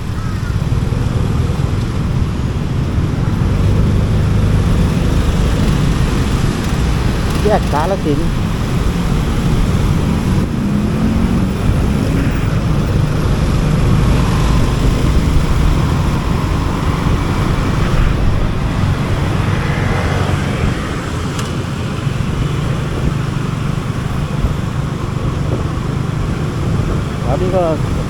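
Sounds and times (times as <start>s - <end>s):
motorcycle engine running: 0.0s - 28.0s
road and traffic noise: 0.0s - 28.0s.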